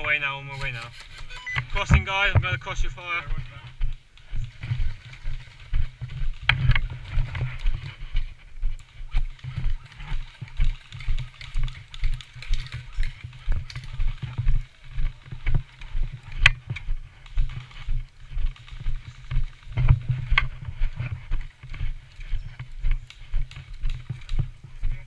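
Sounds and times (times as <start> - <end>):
footsteps walking: 0.0 - 25.0
clothing and gear rustling: 3.1 - 25.0.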